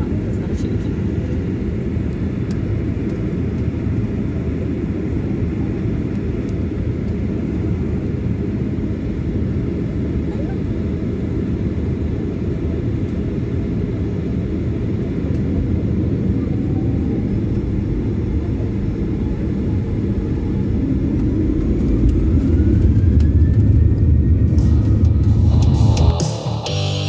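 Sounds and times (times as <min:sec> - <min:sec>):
jet engines rumbling and whining: 0:00.0 - 0:27.0.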